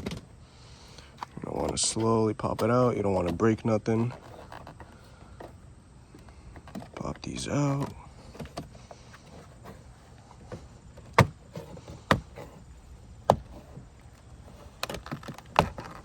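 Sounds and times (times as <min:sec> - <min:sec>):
handling noises: 0:00.0 - 0:16.0.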